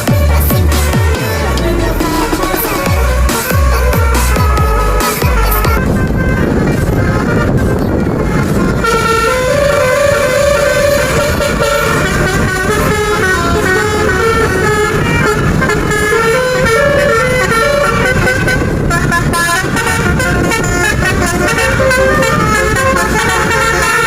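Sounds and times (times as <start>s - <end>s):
bus engine rumble: 0.0s - 24.0s
multi-tone bus horns: 0.0s - 24.0s.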